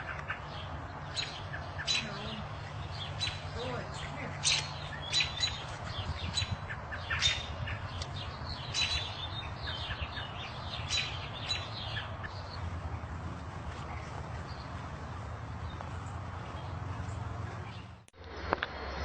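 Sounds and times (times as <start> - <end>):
birds chirping: 0.0 - 18.1
low steady rumble: 0.0 - 19.0.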